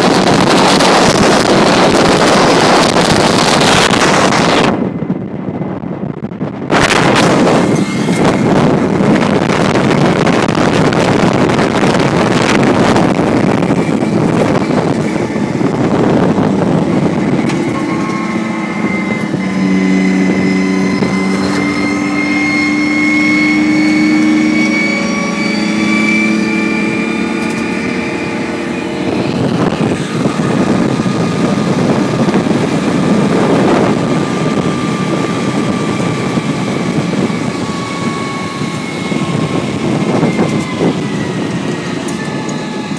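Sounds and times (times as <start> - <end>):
diesel engine and drivetrain noise: 0.0 - 42.9
multi-pitched whine: 0.0 - 42.9
wind rushing: 0.0 - 42.9.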